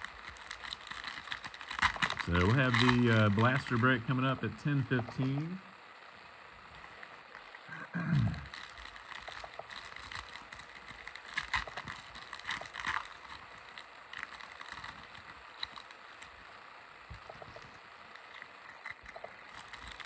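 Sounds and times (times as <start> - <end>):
foil wrappers crinkling and tearing: 0.0 - 5.8, 6.6 - 7.7, 8.3 - 20.0.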